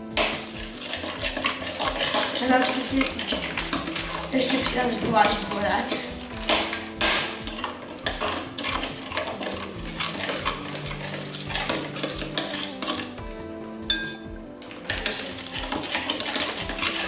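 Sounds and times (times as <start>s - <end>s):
metal spoon stirring slime in glass bowl: 0.1s - 13.2s, 13.9s - 17.0s.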